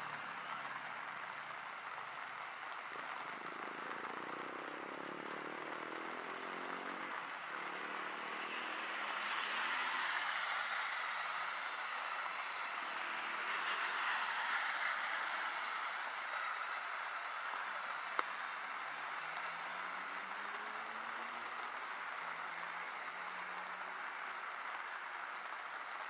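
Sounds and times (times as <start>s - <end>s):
rain hiss: 0.0s - 26.0s
tyres on wet road: 0.0s - 26.0s
vehicle engine hum: 0.0s - 26.0s.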